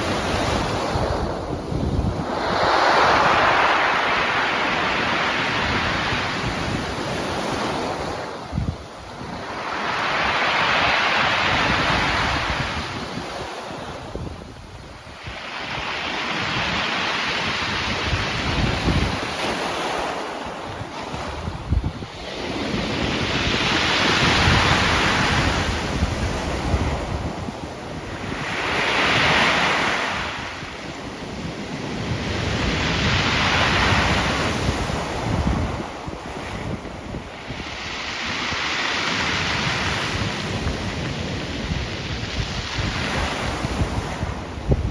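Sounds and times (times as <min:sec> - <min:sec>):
sea waves breaking: 0:00.0 - 0:44.9
wind rumbling on microphone: 0:00.0 - 0:44.9.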